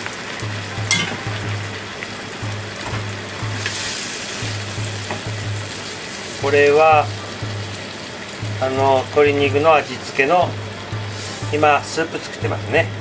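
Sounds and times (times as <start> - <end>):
wine simmering in frying pan: 0.0 - 13.0
background music with pulsing bass: 0.4 - 3.8, 4.4 - 13.0.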